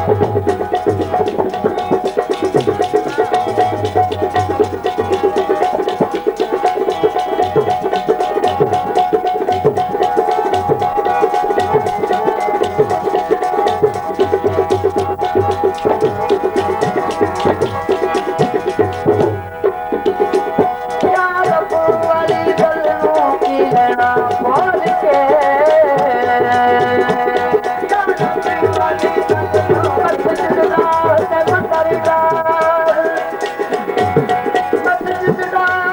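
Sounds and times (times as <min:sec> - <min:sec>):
fast hand-drum rhythm: 0:00.0 - 0:35.9
harmonium melody: 0:00.0 - 0:35.9.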